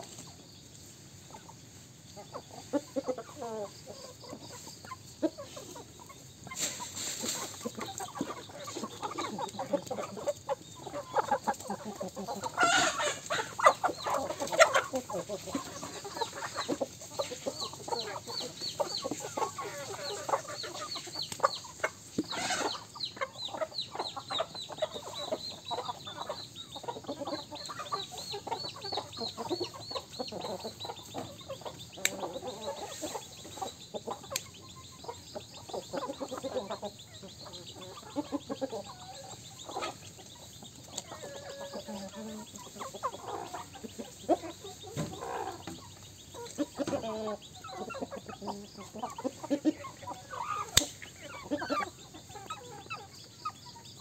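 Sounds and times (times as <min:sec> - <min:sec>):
hens and roosters clucking: 0:00.0 - 0:54.0.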